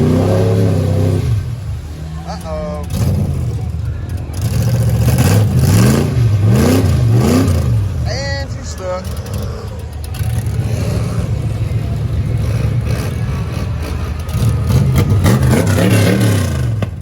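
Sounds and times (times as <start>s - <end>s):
truck engine revving in mud: 0.0s - 17.0s.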